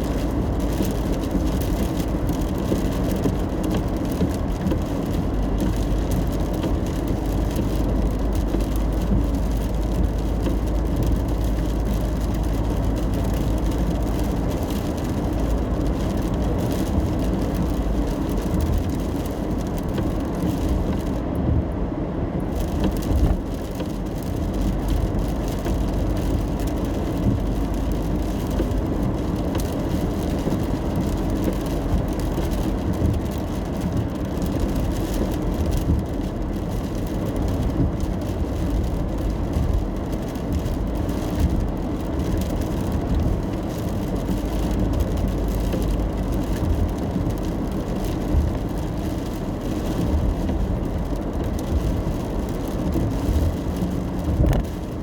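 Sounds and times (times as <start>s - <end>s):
rain pattering on car: 0.0s - 55.0s
tyres and engine rumble: 0.0s - 55.0s.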